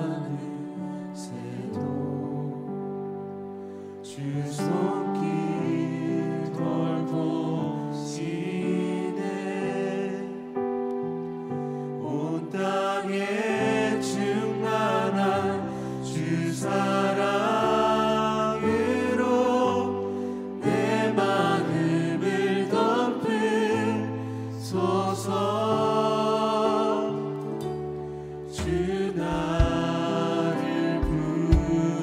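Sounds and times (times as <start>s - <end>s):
man and woman singing praise song: 0.0s - 2.6s, 4.0s - 10.5s, 12.0s - 27.4s, 28.5s - 32.0s
keyboard chords: 0.0s - 32.0s.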